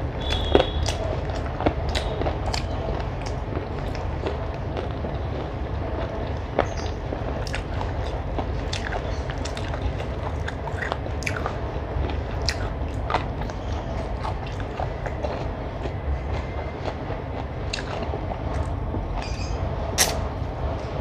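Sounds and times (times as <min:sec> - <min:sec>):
steady low hum: 0:00.0 - 0:21.0
chewing with wet mouth clicks: 0:00.2 - 0:19.4, 0:20.0 - 0:20.2.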